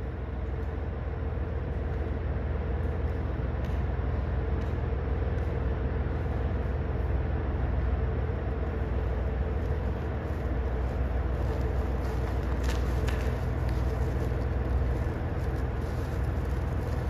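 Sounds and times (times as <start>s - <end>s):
diesel railcar rumble: 0.0s - 17.0s.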